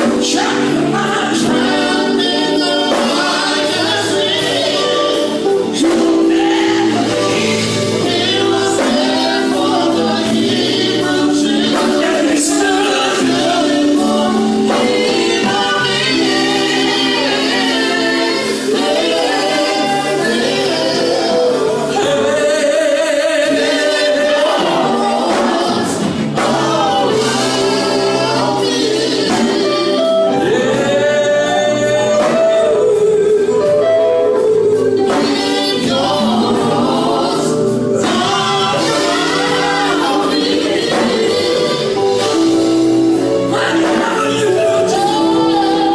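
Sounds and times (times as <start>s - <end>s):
gospel choir singing: 0.0s - 45.9s.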